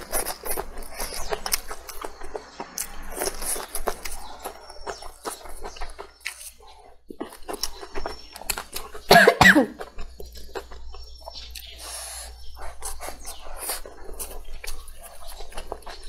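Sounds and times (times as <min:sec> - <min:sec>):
chewing and lip smacking: 0:00.0 - 0:09.1, 0:09.8 - 0:16.0.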